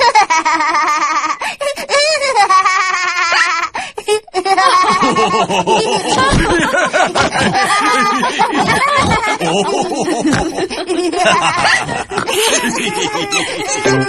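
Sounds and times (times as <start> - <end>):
cartoon characters laughing: 2.0 - 3.7, 4.3 - 14.0.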